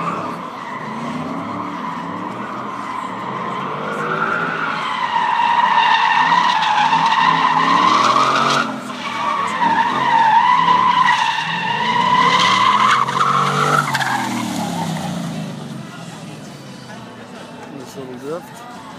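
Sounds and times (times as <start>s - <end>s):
tires squealing: 0.0s - 18.0s.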